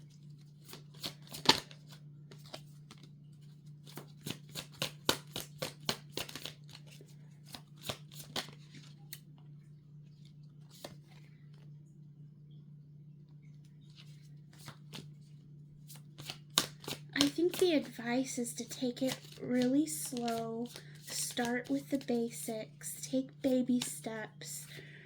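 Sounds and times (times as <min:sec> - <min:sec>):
cards being shuffled: 0:00.0 - 0:09.3, 0:10.1 - 0:11.7, 0:13.7 - 0:22.4, 0:23.4 - 0:24.6
low steady hum: 0:00.0 - 0:25.0.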